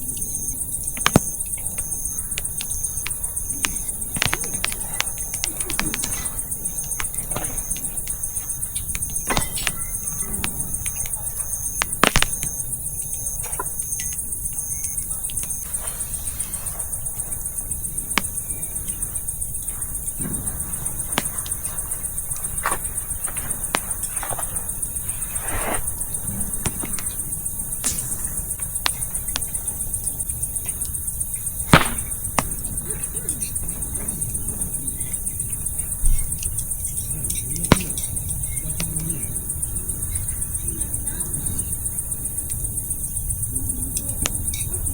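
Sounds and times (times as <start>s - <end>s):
campfire crackling and popping: 0.0s - 43.4s, 44.0s - 44.9s
crickets chirring: 0.0s - 44.9s.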